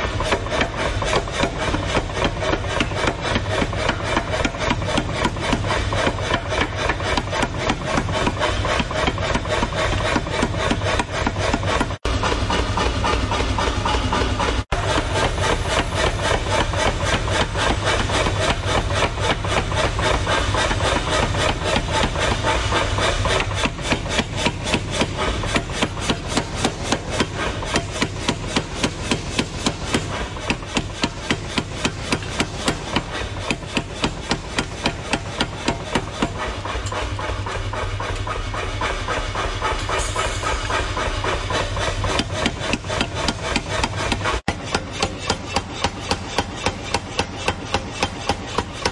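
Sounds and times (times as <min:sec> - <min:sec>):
power hammer pounding steel: 0:00.0 - 0:48.9.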